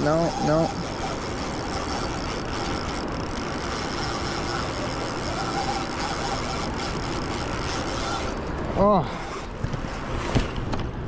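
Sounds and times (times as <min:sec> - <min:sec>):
fast river current rushing: 0:00.0 - 0:10.6.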